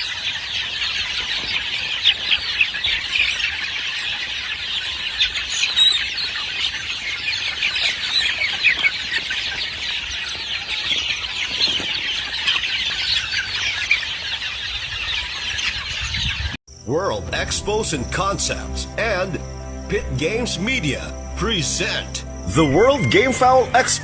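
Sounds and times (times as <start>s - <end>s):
chickens clucking and chirping: 0.0s - 24.0s.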